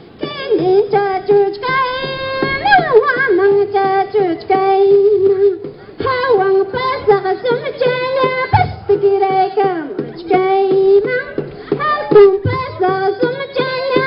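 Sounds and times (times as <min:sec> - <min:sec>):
steady beat: 0:01.6 - 0:14.0.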